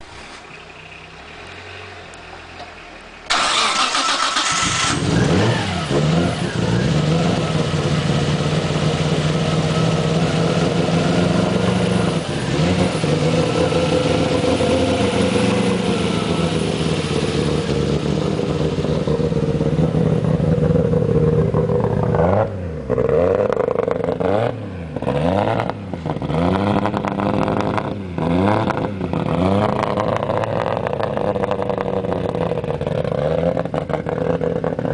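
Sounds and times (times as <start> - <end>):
car engine starting and idling: 0.0 - 34.9
engine revving: 3.2 - 34.9.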